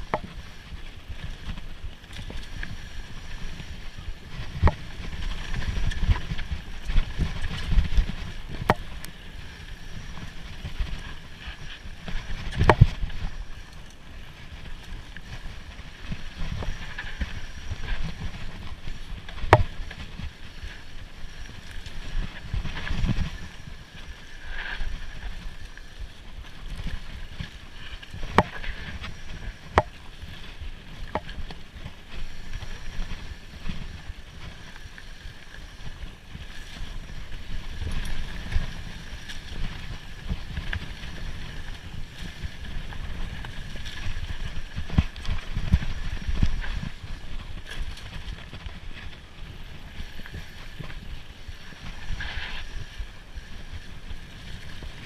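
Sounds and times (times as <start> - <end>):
bike tyres rumbling on dirt: 0.0 - 55.0.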